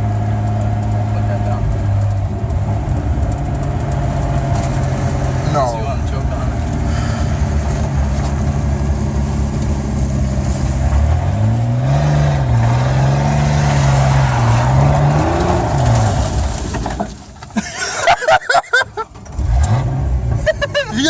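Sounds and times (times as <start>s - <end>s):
pickup engine revving: 0.0s - 21.0s.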